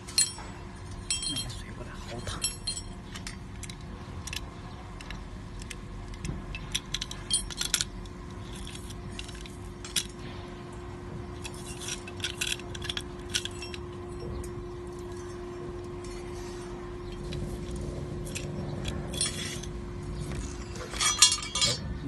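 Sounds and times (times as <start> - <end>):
faint hum: 0.0 - 22.0
small metal clicks and clinks: 0.1 - 10.2, 11.4 - 15.4, 17.1 - 19.8, 20.8 - 21.8.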